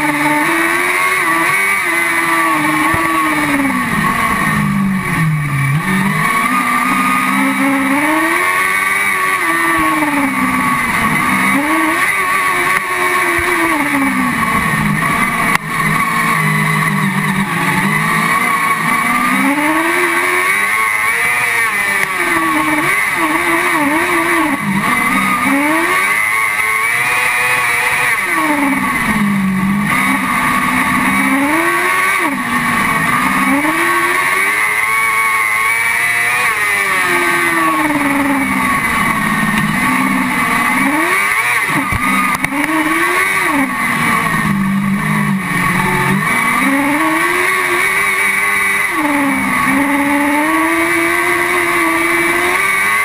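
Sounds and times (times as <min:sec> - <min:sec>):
racing buggy engine: 0:00.0 - 0:53.0
wind and tyre noise: 0:00.0 - 0:53.0.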